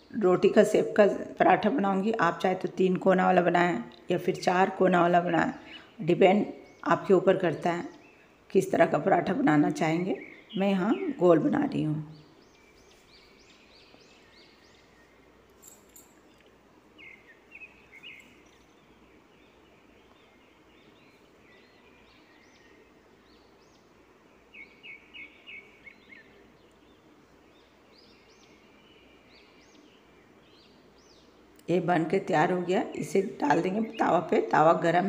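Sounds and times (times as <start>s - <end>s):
low background hiss: 0.0s - 35.0s
small birds chirping: 0.0s - 35.0s.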